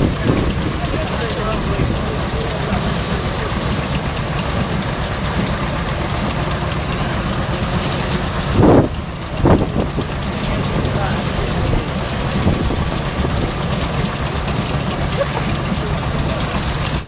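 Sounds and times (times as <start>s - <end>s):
engine drone with fast ticking: 0.0s - 17.0s.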